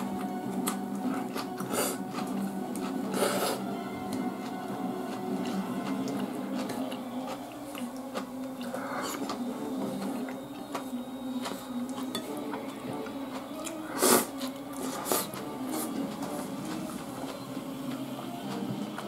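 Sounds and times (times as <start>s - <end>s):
eating noises: 0.0s - 19.0s
faint background music: 0.0s - 19.0s.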